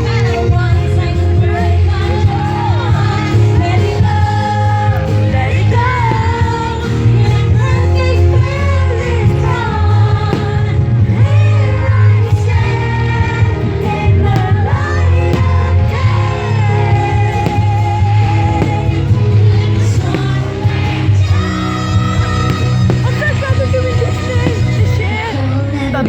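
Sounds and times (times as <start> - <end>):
heavy bass line: 0.0 - 26.0
pop song with singer: 0.0 - 26.0.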